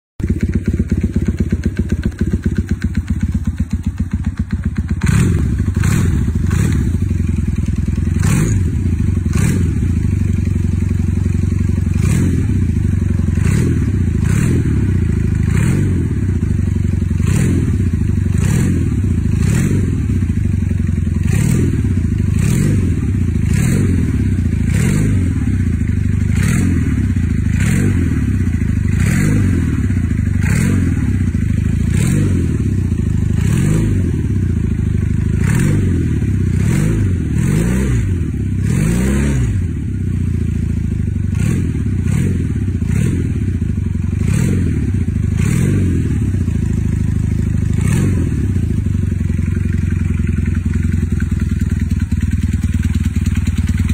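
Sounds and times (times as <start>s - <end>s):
motorcycle engine running: 0.2s - 53.9s.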